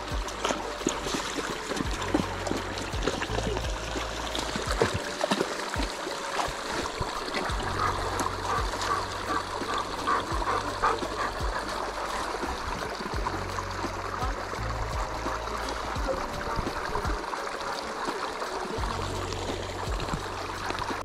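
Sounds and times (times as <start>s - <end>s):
creek trickling: 0.0s - 21.0s
dogs splashing in water: 0.0s - 21.0s.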